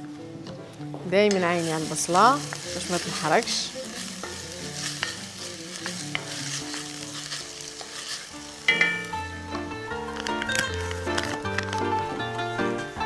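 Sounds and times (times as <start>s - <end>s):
background music: 0.0s - 13.0s
onion sizzling in oil: 1.1s - 13.0s.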